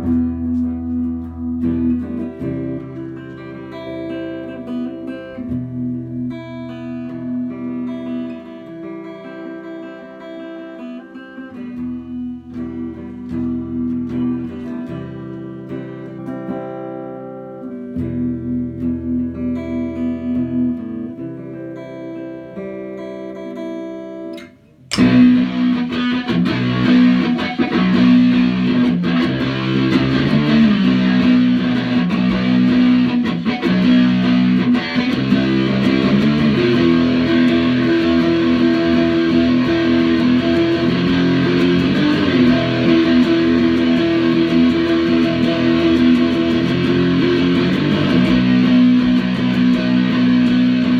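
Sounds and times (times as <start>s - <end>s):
guitar playing rock: 0.0s - 50.9s.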